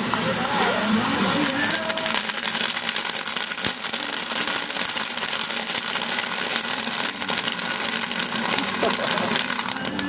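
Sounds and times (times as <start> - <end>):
crackle and hiss of burning food: 0.0 - 10.0
microwave oven running: 0.0 - 10.0.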